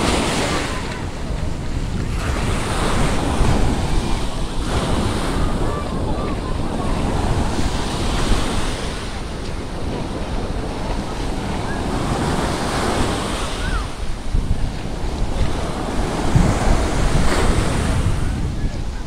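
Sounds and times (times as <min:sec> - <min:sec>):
waves breaking on sandy beach: 0:00.0 - 0:19.0
wind buffeting microphone: 0:00.0 - 0:19.0.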